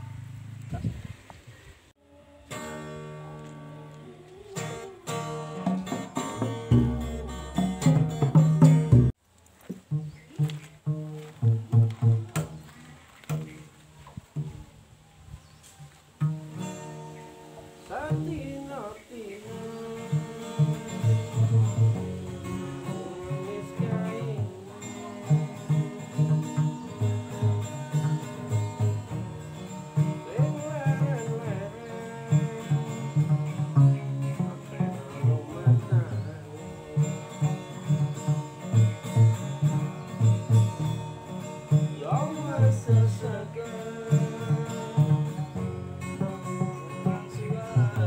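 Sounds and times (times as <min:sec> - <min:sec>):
plucked and strummed strings: 0:02.4 - 0:14.7, 0:16.2 - 0:48.0.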